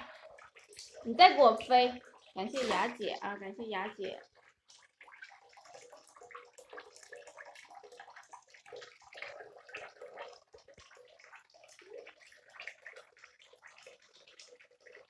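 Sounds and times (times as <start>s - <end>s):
tap running into water: 0.0s - 15.0s
water splashes and trickles: 0.0s - 15.0s.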